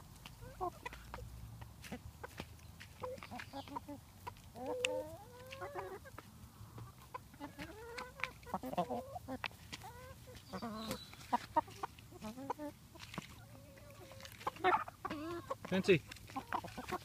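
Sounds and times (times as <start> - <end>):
chickens clucking: 0.0 - 17.0
beaks pecking ground: 0.2 - 17.0.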